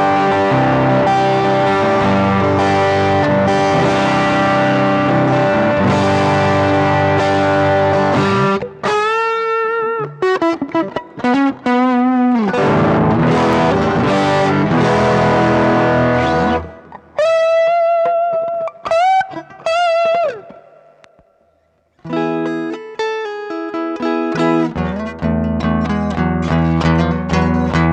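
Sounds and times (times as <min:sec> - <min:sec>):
overdriven electric guitar: 0:00.0 - 0:27.9.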